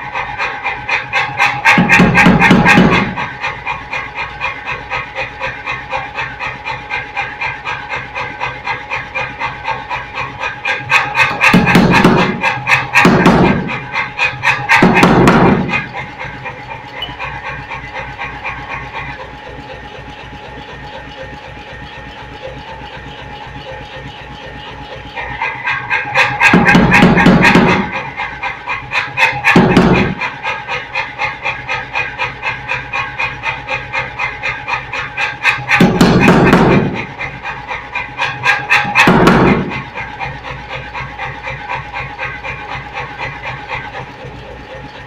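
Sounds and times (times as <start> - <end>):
pneumatic forging hammer strokes: 0.0 - 45.0.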